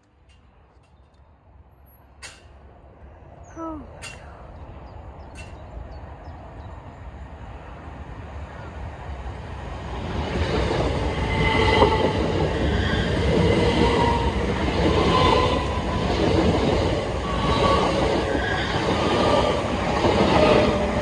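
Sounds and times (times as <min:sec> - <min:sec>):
train wheels rumbling on rail: 0:00.0 - 0:03.3, 0:03.9 - 0:21.0.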